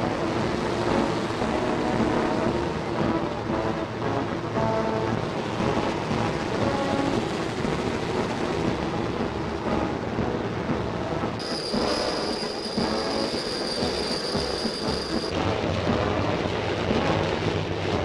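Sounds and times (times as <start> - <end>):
high-pitched whine: 0.0 - 16.2.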